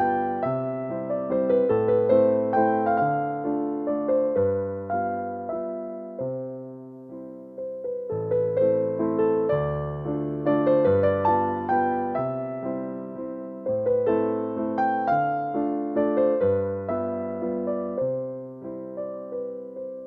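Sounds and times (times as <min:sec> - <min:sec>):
gentle electric piano melody: 0:00.0 - 0:20.0.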